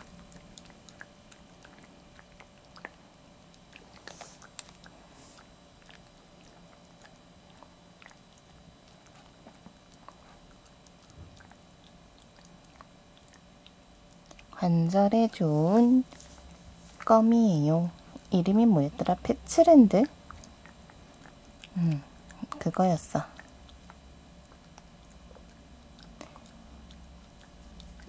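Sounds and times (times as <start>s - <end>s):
dog chewing and crunching: 0.0s - 28.0s.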